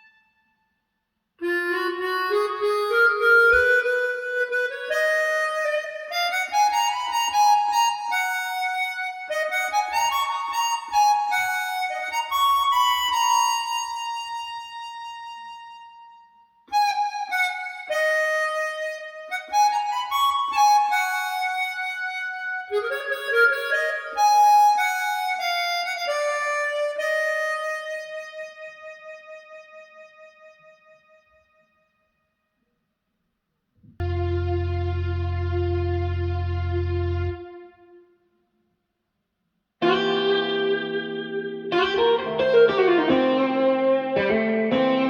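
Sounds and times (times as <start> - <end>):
harmonica melody over loudspeakers: 0.0 - 0.4, 1.4 - 31.7, 34.0 - 38.0, 39.8 - 45.0.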